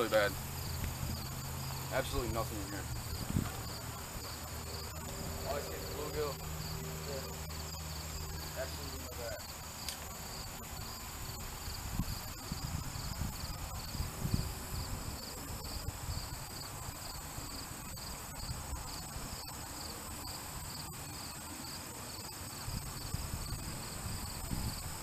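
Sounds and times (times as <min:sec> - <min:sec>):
crickets chirping: 0:00.0 - 0:25.0
high insect trill: 0:00.0 - 0:25.0.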